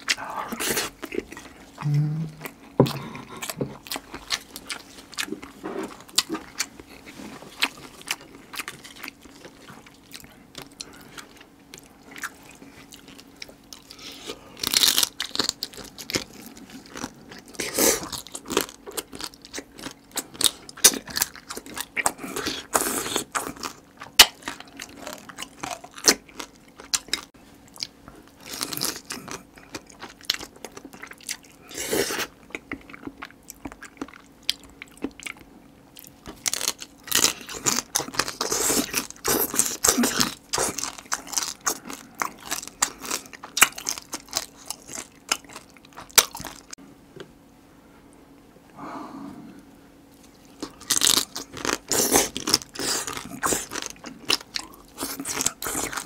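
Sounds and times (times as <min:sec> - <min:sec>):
crab shell crunching in chewing: 0:00.0 - 0:46.8, 0:50.2 - 0:56.0
wet chewing bursts: 0:00.0 - 0:46.8, 0:50.1 - 0:56.0.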